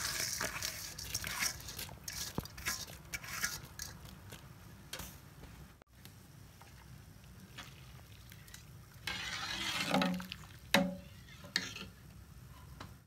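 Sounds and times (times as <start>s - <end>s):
ladle stirring rice in water: 0.0s - 5.2s, 6.5s - 12.0s.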